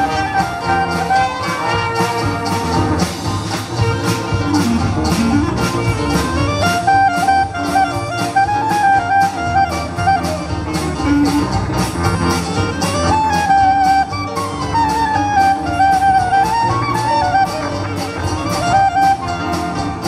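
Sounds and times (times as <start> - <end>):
banjo: 0.0 - 20.0
brass melody: 0.0 - 20.0
clarinet: 0.0 - 20.0
double bass: 0.0 - 20.0
drum kit beat: 0.0 - 20.0.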